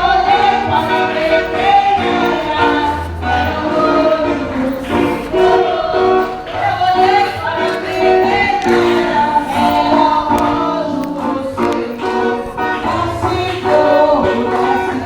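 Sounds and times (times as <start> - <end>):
congregation singing a hymn: 0.0 - 15.0
instrumental accompaniment: 0.0 - 15.0.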